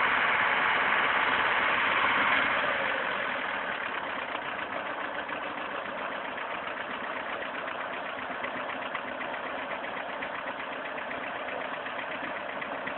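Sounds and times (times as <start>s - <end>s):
car engine idling with knocking: 0.0s - 12.9s.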